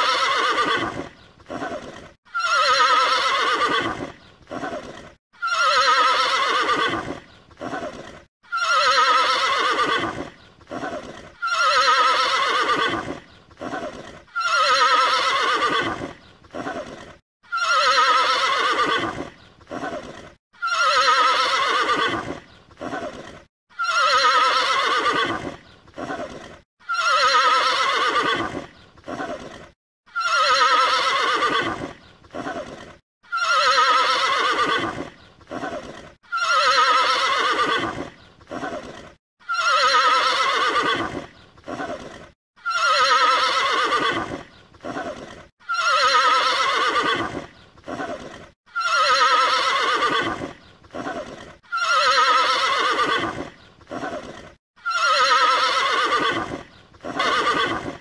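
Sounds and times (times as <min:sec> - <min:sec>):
horse whinnying: 0:00.0 - 0:58.0.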